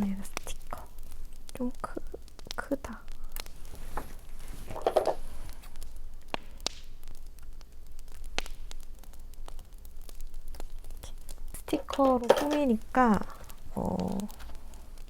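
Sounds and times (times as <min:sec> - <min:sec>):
low steady hum: 0:00.0 - 0:15.0
soft rustle: 0:00.0 - 0:15.0
wood fire crackling: 0:00.0 - 0:15.0.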